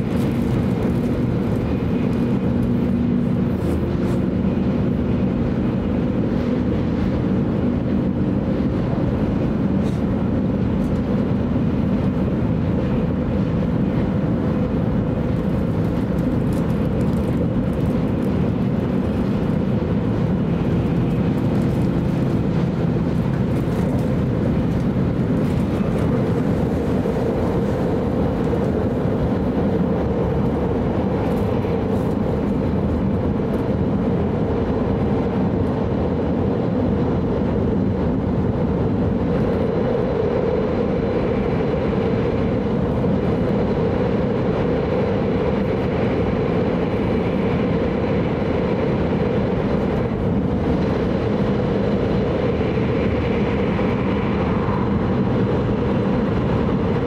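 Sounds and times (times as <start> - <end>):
train cabin rumble and rush: 0.0 - 57.0.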